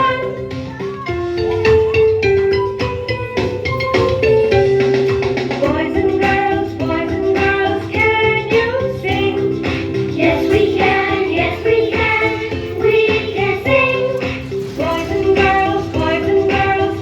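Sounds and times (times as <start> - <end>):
children's song singing: 0.0 - 17.0
music backing track: 0.0 - 17.0.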